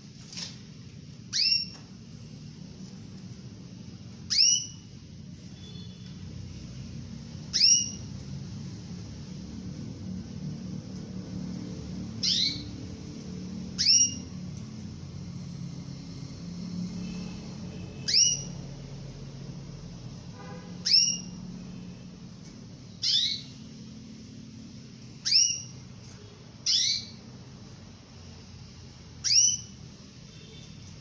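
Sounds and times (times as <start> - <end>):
canary chirps: 0.0 - 31.0.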